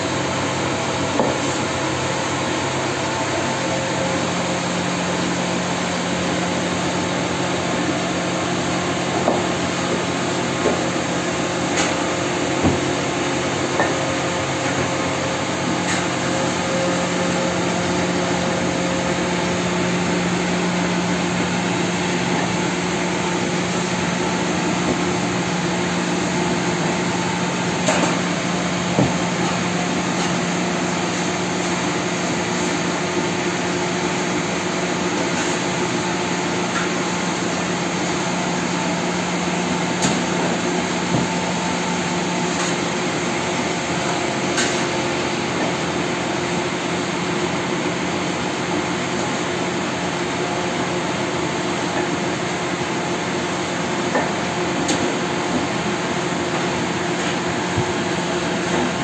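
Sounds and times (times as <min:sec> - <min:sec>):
bakery machinery hum: 0:00.0 - 0:59.0.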